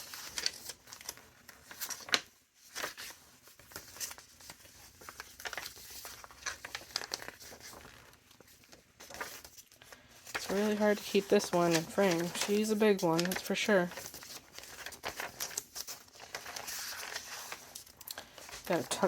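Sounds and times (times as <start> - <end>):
paper rustling and crinkling: 0.0 - 19.0.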